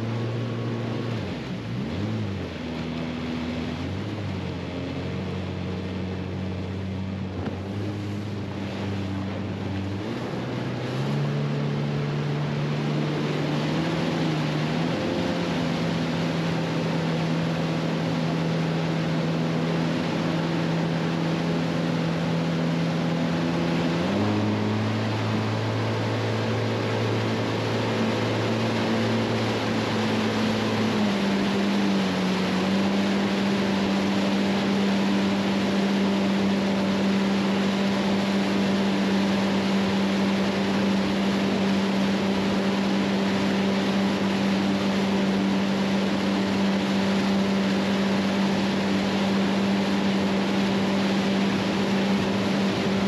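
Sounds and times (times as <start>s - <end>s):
motorboat engine running: 0.0s - 53.0s
water churning in wake: 0.0s - 53.0s.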